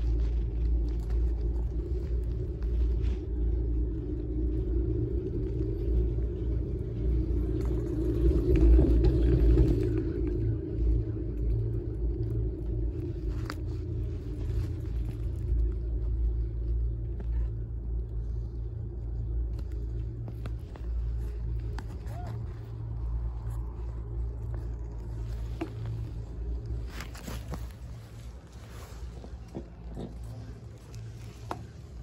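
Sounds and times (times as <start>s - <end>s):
moving chairlift rumble: 0.0s - 32.0s
wind rumble: 0.0s - 32.0s.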